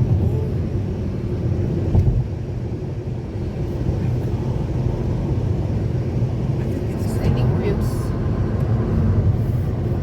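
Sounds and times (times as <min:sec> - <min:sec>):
road noise inside moving car: 0:00.0 - 0:10.0.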